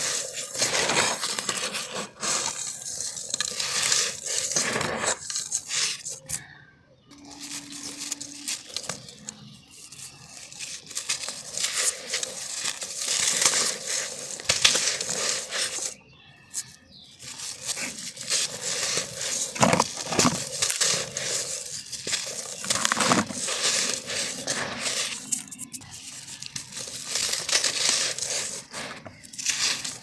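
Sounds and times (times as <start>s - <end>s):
sand crunching by hand: 0.0s - 6.3s, 7.4s - 30.0s.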